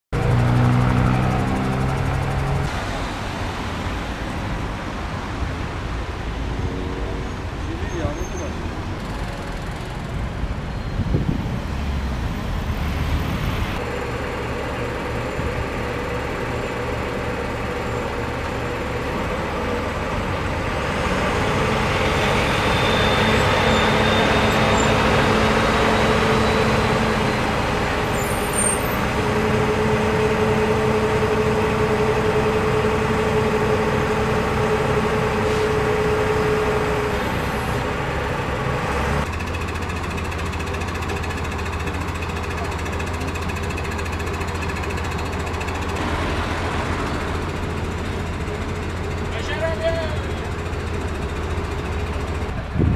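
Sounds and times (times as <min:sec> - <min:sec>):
traffic noise: 0:00.1 - 0:52.9
vehicle engines droning: 0:00.1 - 0:52.9.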